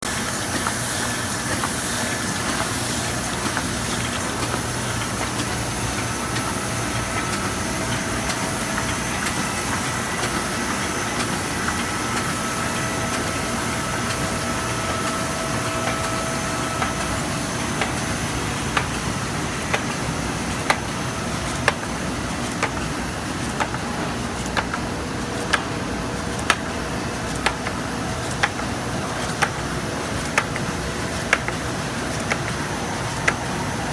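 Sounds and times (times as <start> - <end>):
machine hum and hiss: 0.0 - 33.9.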